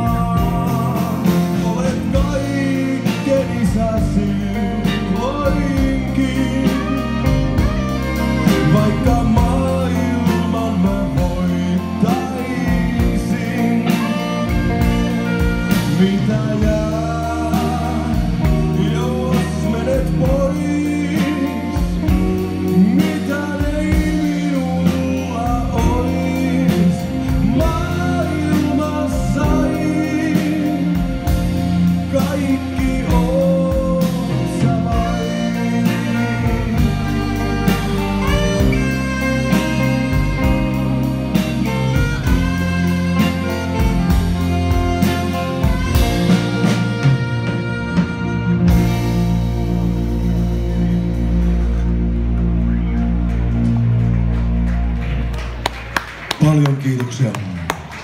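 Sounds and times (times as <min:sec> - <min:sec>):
electric guitar: 0:00.0 - 0:56.4
lead melody line: 0:00.0 - 0:56.4
bass guitar: 0:00.0 - 0:58.0
drums: 0:00.0 - 0:58.0.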